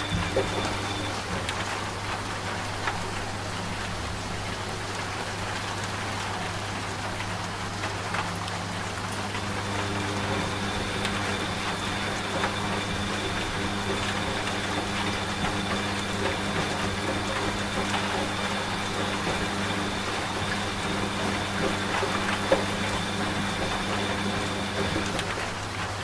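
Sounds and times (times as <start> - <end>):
steady rain: 0.0 - 26.0
washing machine motor hum: 0.0 - 26.0.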